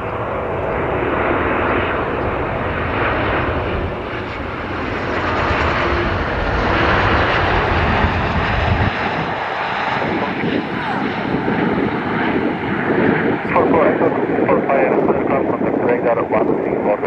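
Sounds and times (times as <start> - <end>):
airplane engine rumble: 0.0 - 17.0.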